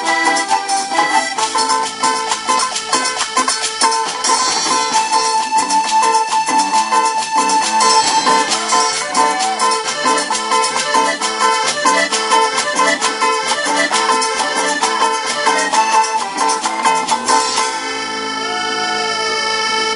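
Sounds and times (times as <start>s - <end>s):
fast percussion beat: 0.0s - 17.8s
live latin dance band: 0.0s - 19.9s.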